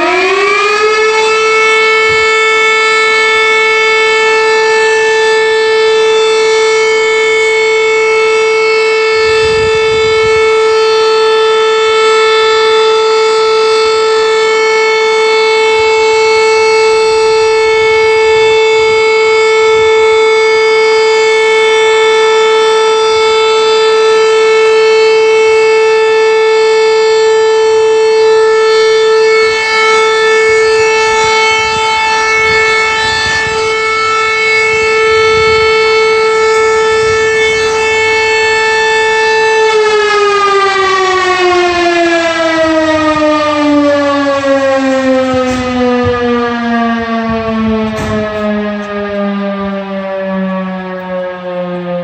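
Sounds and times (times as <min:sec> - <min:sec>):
fire station alarm siren: 0:00.0 - 0:52.0.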